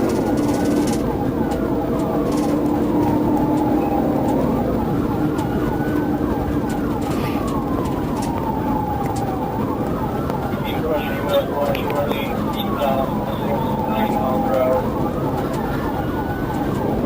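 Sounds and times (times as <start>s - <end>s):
fast siren yelp: 0.0s - 17.0s
police siren wailing: 0.0s - 17.0s
vehicle engine and road noise: 0.0s - 17.0s.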